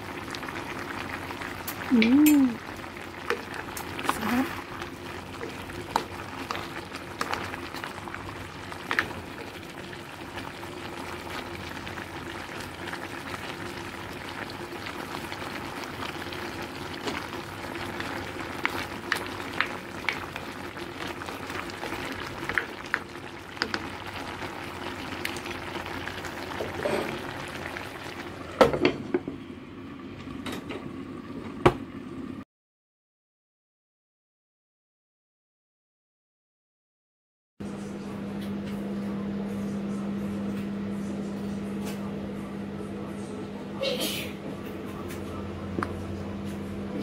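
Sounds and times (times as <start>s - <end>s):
stew simmering and bubbling: 0.0s - 32.4s, 37.6s - 47.0s.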